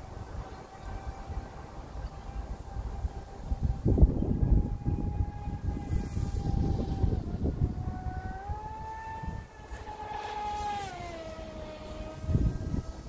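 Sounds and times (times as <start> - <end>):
distant model boat motor whining: 0.0 - 13.0
wind rumble on microphone: 0.0 - 13.0.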